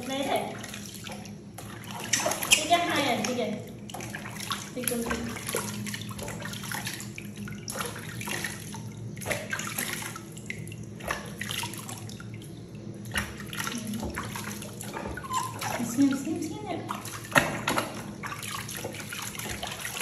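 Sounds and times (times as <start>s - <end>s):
water splashing in a plastic basin: 0.0s - 20.0s.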